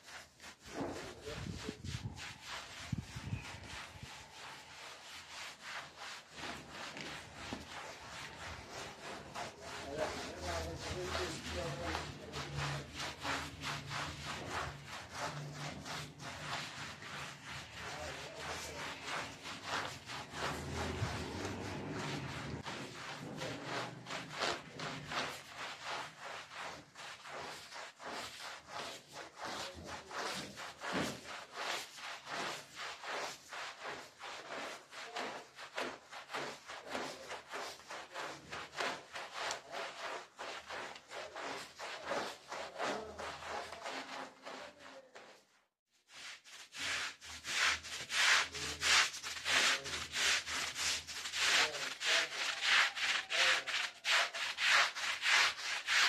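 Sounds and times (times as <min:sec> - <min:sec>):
brush scrubbing wet rug: 0:00.0 - 0:56.0.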